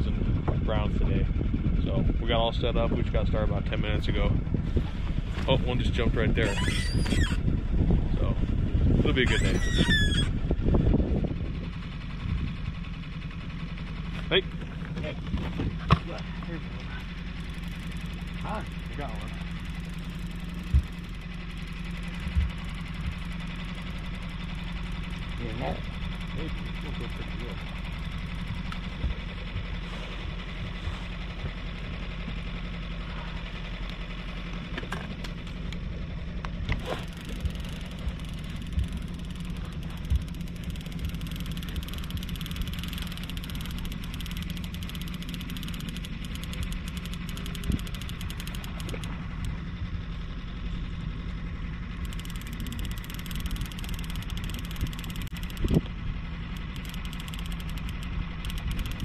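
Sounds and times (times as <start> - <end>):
outboard motor droning: 0.0 - 59.0.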